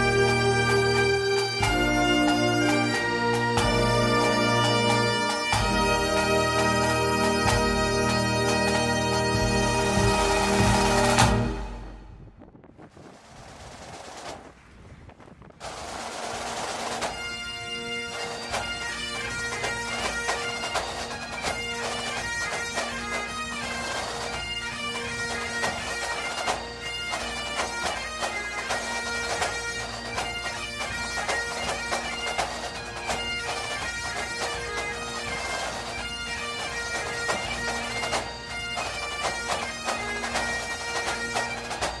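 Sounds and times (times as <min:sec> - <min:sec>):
bagpipe music: 0:00.0 - 0:12.1, 0:16.4 - 0:42.0.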